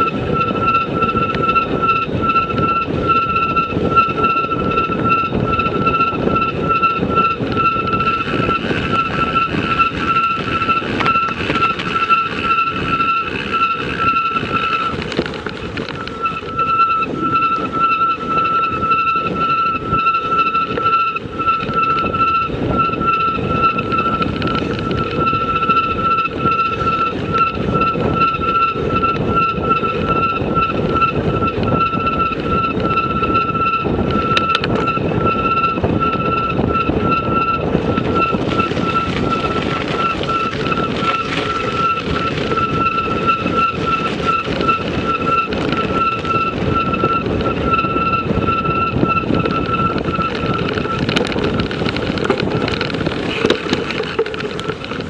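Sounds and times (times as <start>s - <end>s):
high-pitched whine: 0.0s - 55.0s
rumbling ride noise: 0.0s - 55.0s.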